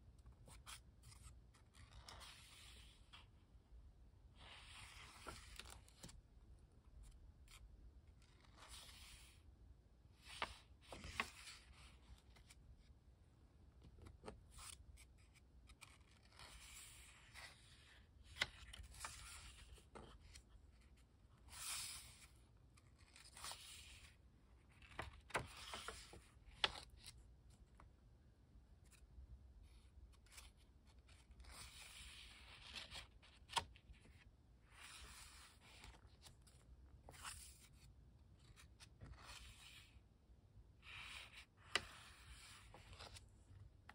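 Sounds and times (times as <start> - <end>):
paper pages turning: 0.4 - 3.4, 4.4 - 6.2, 7.0 - 9.4, 10.2 - 12.7, 13.8 - 27.2, 29.7 - 40.0, 40.8 - 43.9.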